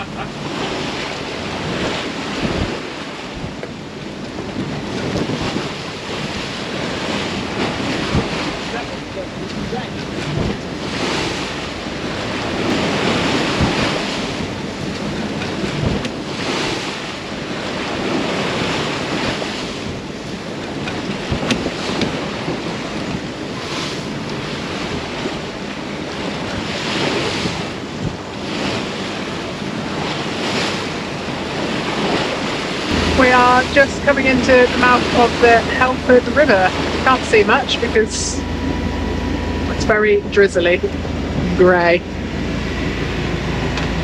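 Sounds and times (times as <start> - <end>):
sea water rushing around boat: 0.0 - 44.0
wind buffeting microphone: 0.0 - 44.0.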